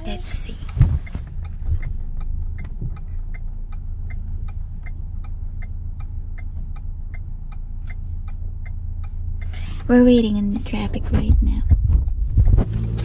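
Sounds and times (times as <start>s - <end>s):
engine hum: 0.0s - 13.0s
turn signal ticking: 0.0s - 13.0s.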